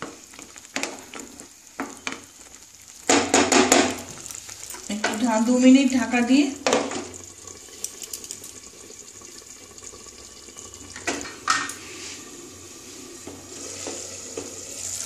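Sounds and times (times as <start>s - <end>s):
gravy bubbling in a pan: 0.0s - 15.0s.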